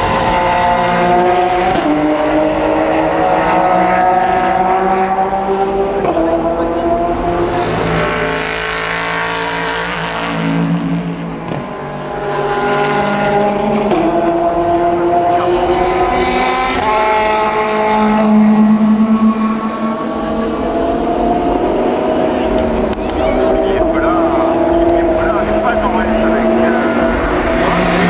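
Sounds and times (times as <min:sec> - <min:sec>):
racing car engines at high revs: 0:00.0 - 0:28.0.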